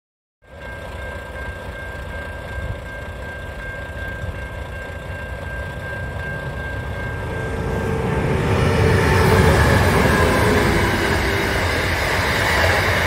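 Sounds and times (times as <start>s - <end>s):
freight train rumble: 0.4s - 13.0s
level crossing bell ringing: 0.6s - 11.9s.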